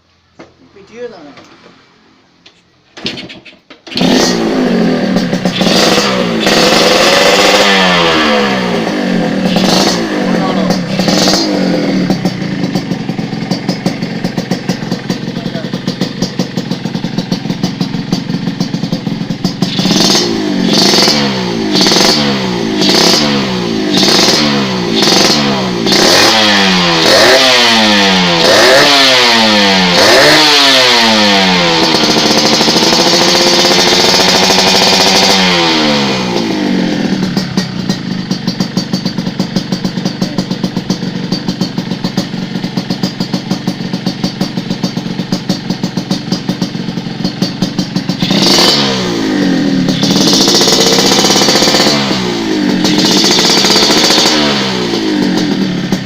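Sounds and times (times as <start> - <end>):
motorcycle engine revving: 1.4 - 56.0.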